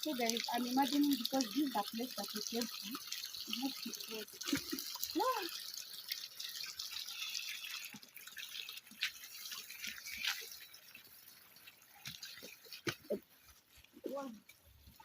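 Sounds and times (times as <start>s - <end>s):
sharp water drips: 0.0s - 15.0s
water trickling over stones: 0.0s - 15.0s.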